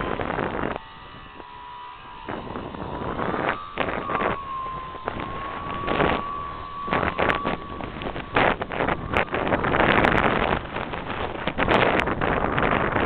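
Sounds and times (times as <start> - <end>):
model airplane motor whining: 0.0 - 13.0
wind gusts on microphone: 0.0 - 13.0.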